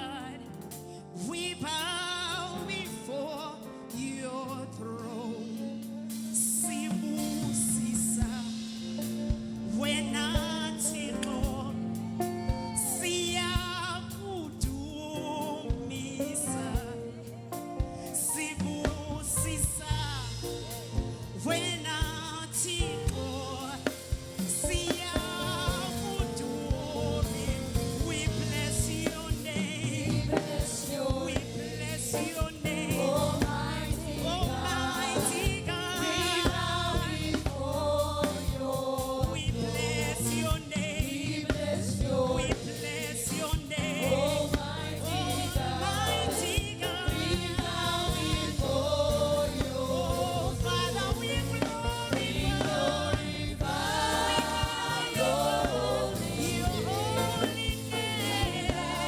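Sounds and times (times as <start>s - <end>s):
group singing gospel song: 0.0s - 59.0s
instrumental backing: 0.0s - 59.0s.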